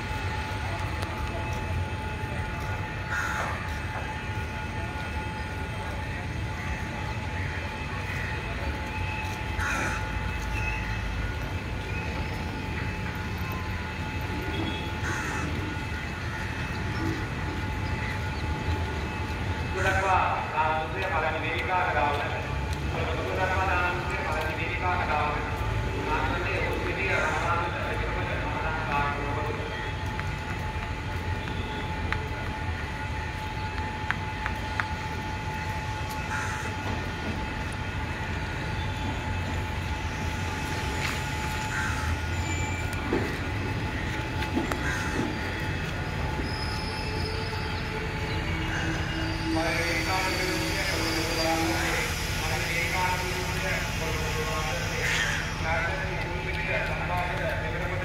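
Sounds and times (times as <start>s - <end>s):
train engine idling rumble: 0.0s - 58.0s.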